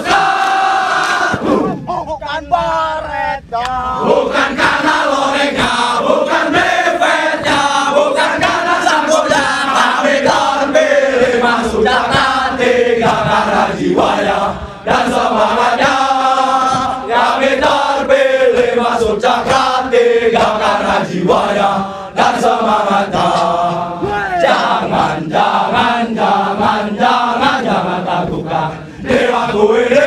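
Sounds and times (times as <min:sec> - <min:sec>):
soldiers chanting in unison: 0:00.0 - 0:01.9, 0:03.9 - 0:30.0.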